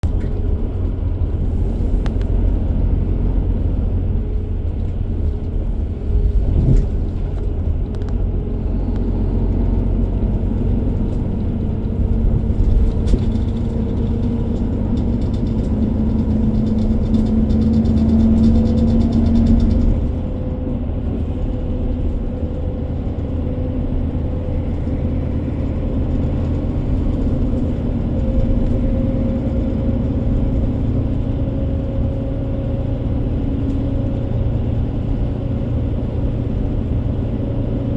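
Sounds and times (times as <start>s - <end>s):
engine rumbling: 0.0s - 37.9s.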